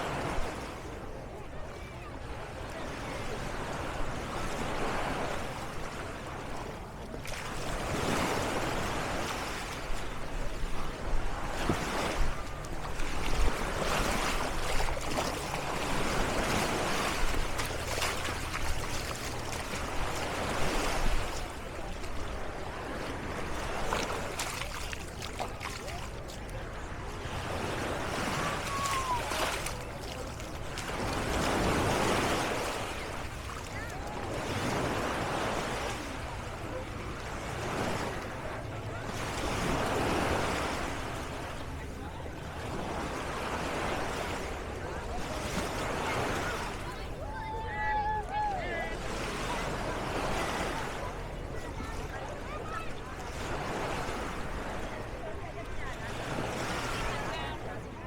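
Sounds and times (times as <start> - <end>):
sea waves washing on shore: 0.0 - 58.0
faint distant voice: 0.2 - 58.0.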